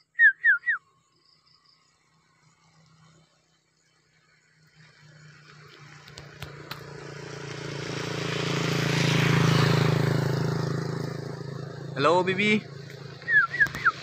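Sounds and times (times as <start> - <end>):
road noise: 0.0 - 14.0
vehicle engine hum passing by: 0.6 - 14.0.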